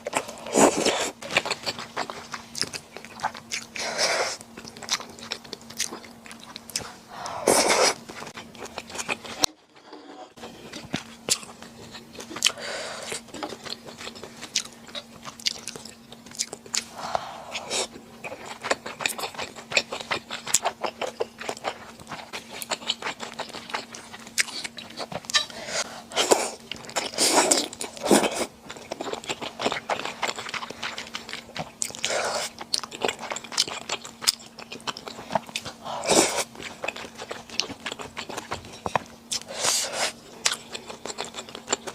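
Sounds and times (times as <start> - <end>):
chewing and biting food: 0.0 - 9.6, 10.4 - 41.9.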